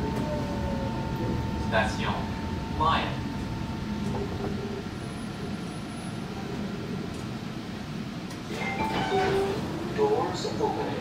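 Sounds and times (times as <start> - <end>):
train car hum and rumble: 0.0 - 11.0.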